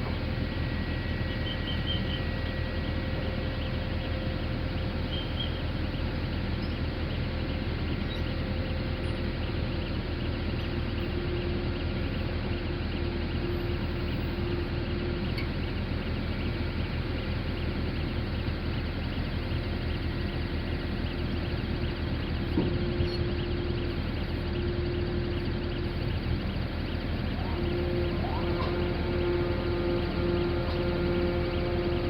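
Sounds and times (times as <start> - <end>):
diesel engine running: 0.0 - 32.0
faint high hum: 0.0 - 32.0.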